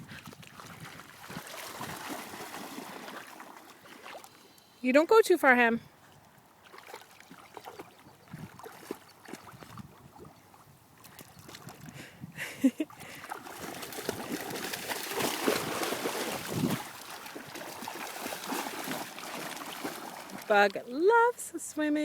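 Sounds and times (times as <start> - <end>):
dogs splashing in river water: 0.0 - 12.0, 12.7 - 21.5.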